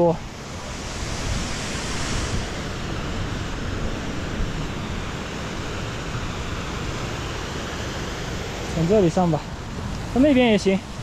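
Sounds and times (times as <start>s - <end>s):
meltwater rushing: 0.0s - 11.0s.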